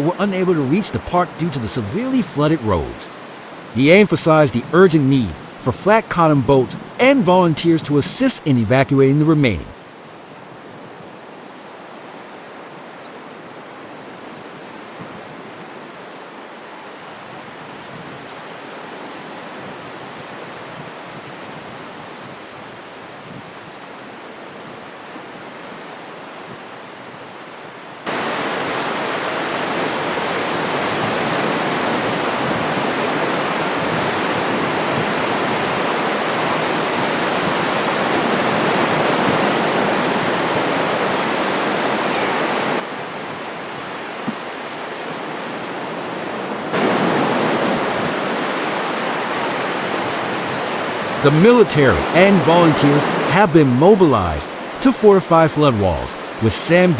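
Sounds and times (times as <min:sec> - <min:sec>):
rushing floodwater: 0:00.0 - 0:56.9.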